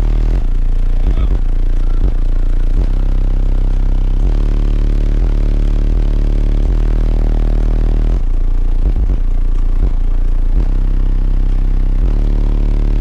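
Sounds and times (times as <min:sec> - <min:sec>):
bass-heavy music from car speakers: 0:00.0 - 0:13.0.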